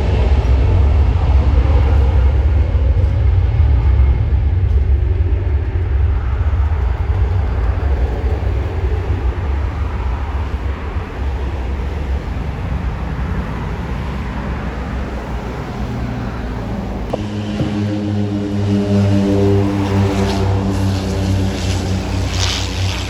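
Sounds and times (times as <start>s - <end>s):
aircraft engines roaring: 0.0s - 23.0s
multi-tone droning hum: 0.0s - 23.0s.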